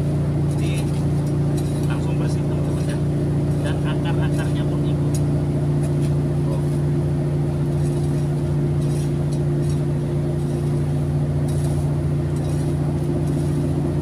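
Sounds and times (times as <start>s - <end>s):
motor engine running: 0.0s - 14.0s
hoe blade chopping soil: 0.4s - 6.9s, 7.6s - 14.0s.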